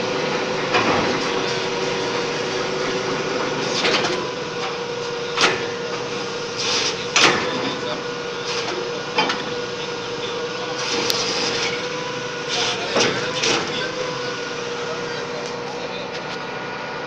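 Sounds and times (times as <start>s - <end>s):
drilling rig hum: 0.0s - 17.0s.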